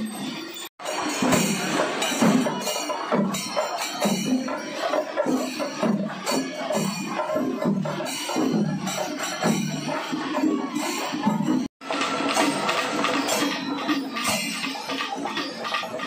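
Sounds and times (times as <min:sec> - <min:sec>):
drums beating rhythm: 0:00.0 - 0:16.0
jingling cymbals: 0:00.0 - 0:16.0.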